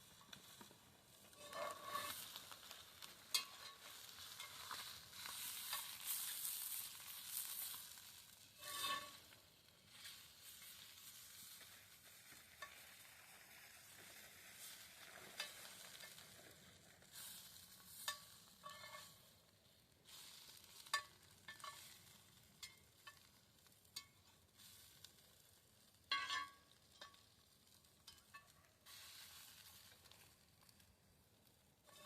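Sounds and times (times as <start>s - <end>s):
campfire crackling and popping: 0.0s - 32.0s
soft fire hiss: 0.0s - 32.0s.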